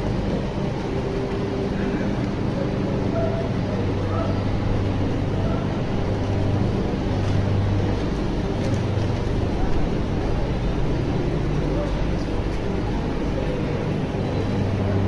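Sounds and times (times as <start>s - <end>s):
electric train humming: 0.0s - 15.0s
faint passenger chatter: 0.0s - 15.0s.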